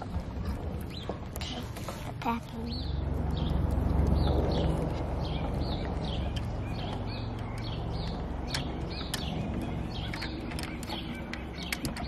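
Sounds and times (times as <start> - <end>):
bird chirping: 0.0 - 12.0
low rumble: 0.0 - 12.0.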